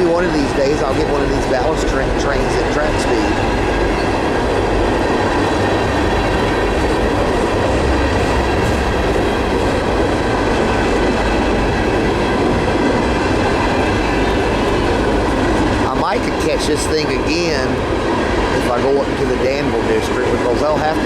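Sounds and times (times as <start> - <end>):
freight train rolling past: 0.0 - 21.0
wheel-on-rail noise: 0.0 - 21.0.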